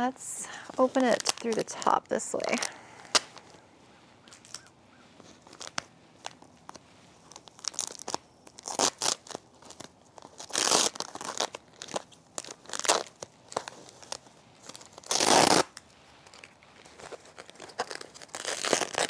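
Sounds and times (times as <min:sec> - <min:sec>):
wrapping crinkling and tearing: 0:00.0 - 0:19.0.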